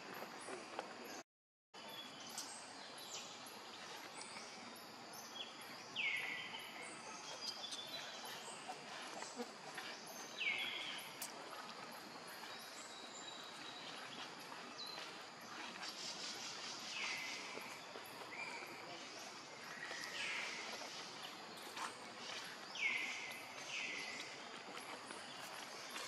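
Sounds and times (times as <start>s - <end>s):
birds and insects chirping: 0.0s - 1.2s, 1.8s - 26.0s
steady forest hiss: 1.8s - 26.0s.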